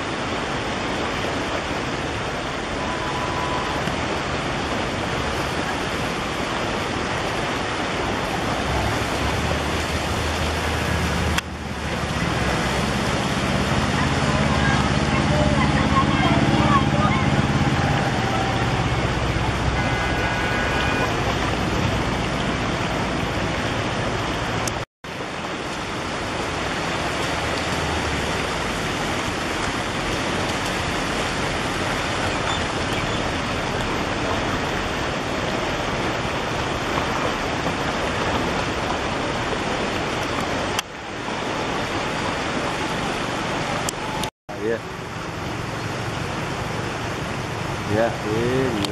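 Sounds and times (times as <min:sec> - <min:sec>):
floodwater rushing: 0:00.0 - 0:48.9.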